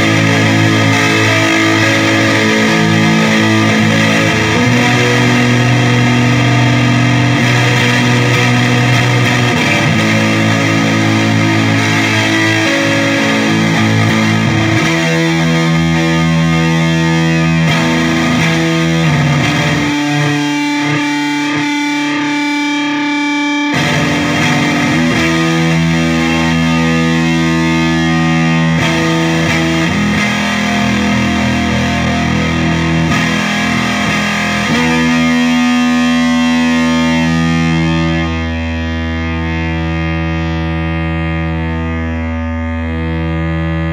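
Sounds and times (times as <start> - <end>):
distorted electric guitar chords: 0.0 - 43.9.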